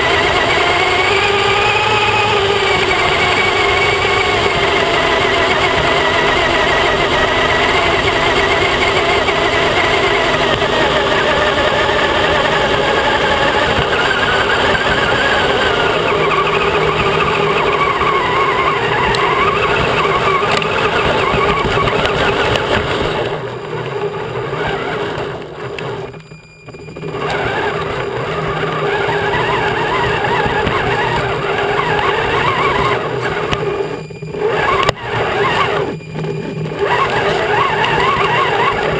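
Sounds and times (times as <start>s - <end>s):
toy truck motor whining: 0.0s - 38.9s.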